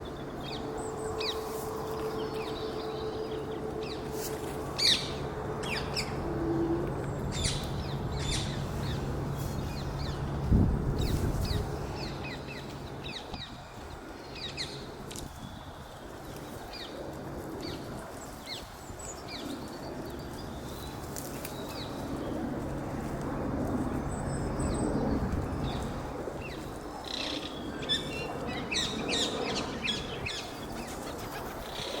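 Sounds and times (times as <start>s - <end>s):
low outdoor background: 0.0s - 32.0s.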